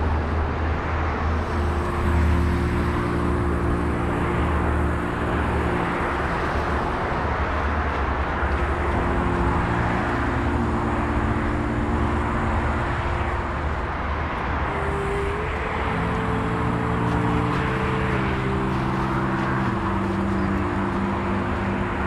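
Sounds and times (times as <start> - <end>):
road and wind noise: 0.0 - 22.0
vehicle engine hum: 0.0 - 22.0.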